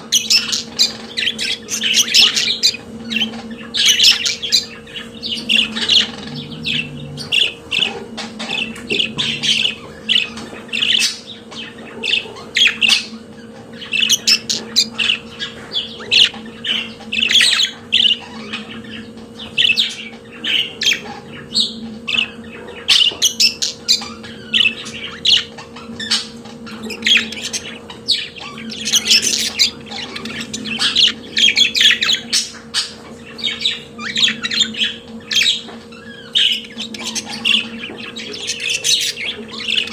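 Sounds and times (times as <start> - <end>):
budgerigar chirps and squawks: 0.0 - 39.9
faint steady hum: 0.0 - 39.9.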